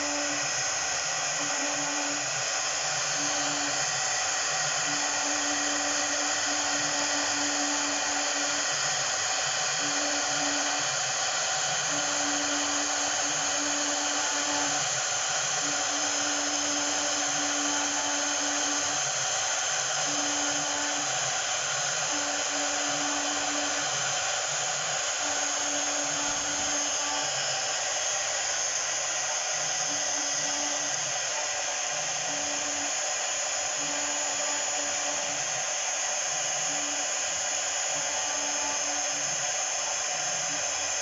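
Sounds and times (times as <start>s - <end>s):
lower machine hum: 0.0s - 41.0s
router spindle hissing whine: 0.0s - 41.0s.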